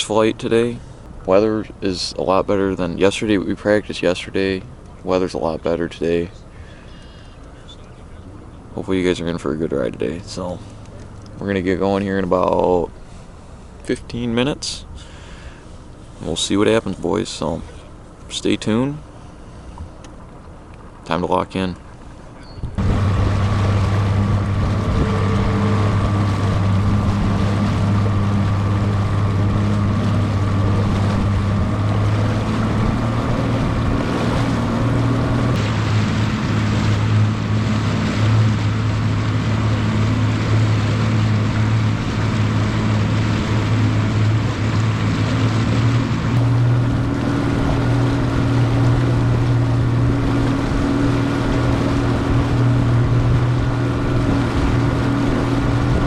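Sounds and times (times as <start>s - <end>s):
outboard motor running: 0.0s - 56.0s
water rushing: 0.0s - 56.0s
wind: 0.0s - 56.0s.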